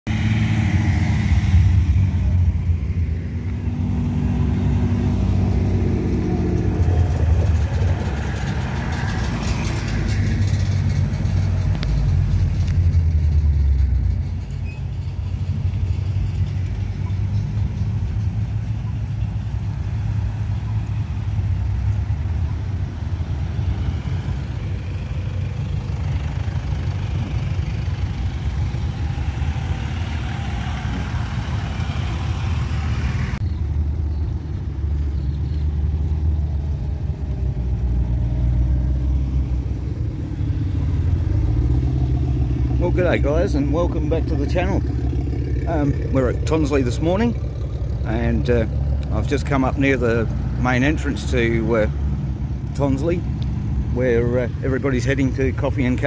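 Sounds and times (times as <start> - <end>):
traffic engines and tyres: 0.0 - 56.0
cars driving past: 0.1 - 56.0
heavy low engine rumble: 0.1 - 56.0.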